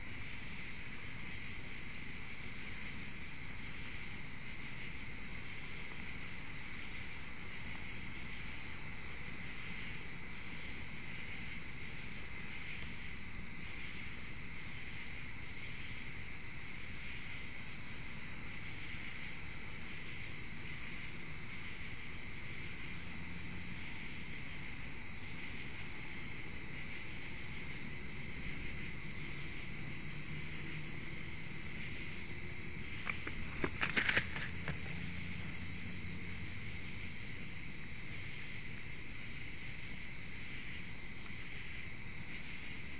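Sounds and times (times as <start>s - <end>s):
crickets trilling: 0.0s - 42.9s
low steady hiss: 0.0s - 42.9s.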